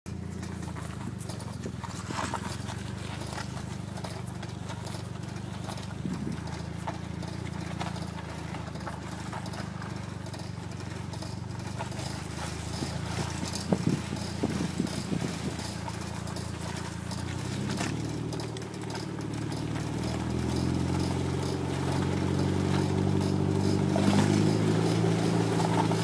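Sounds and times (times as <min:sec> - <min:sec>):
car engine hum: 0:00.1 - 0:26.0
wheel knocking and clicking: 0:00.1 - 0:26.0.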